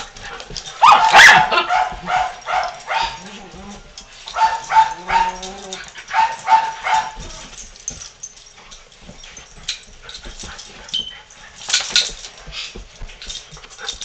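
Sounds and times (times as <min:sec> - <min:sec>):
dogs yipping and barking: 0:00.6 - 0:12.0.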